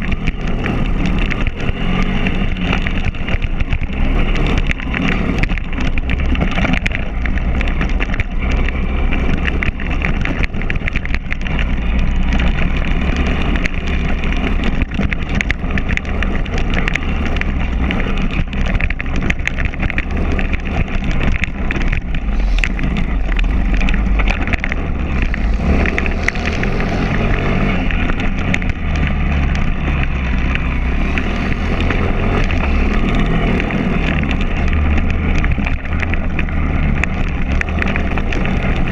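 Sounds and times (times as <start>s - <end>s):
knocks and rattles: 0.0s - 38.9s
small motorbike engine running hard: 0.0s - 38.9s.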